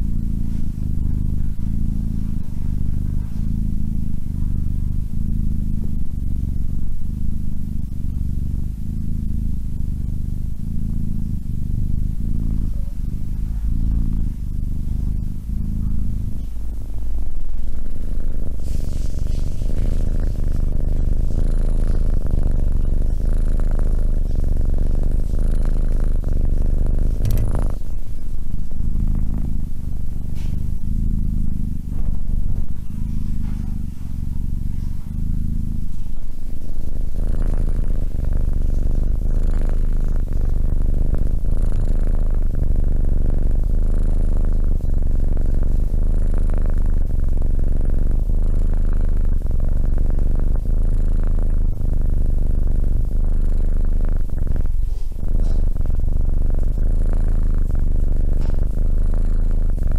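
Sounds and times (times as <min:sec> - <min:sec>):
kitten purring: 0:00.0 - 0:59.9.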